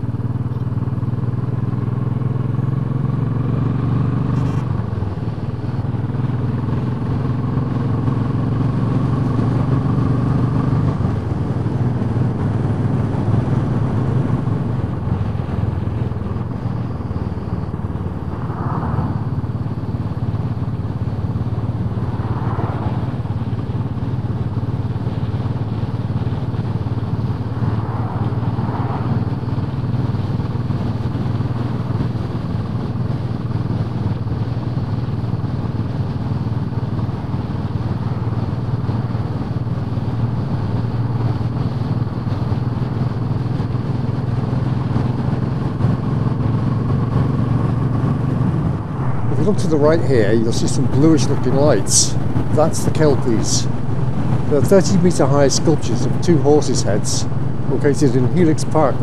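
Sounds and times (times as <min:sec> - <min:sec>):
motorcycle engine running steadily: 0:00.0 - 0:59.0
road noise: 0:00.0 - 0:59.0.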